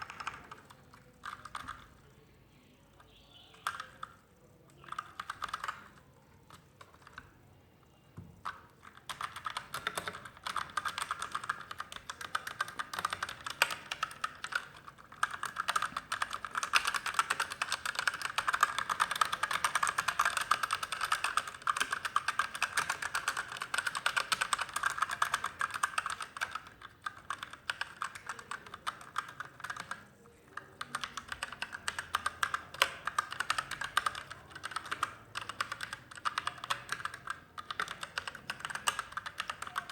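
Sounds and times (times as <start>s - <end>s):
mechanical keyboard typing: 0.0s - 2.2s, 2.9s - 7.4s, 8.4s - 39.9s.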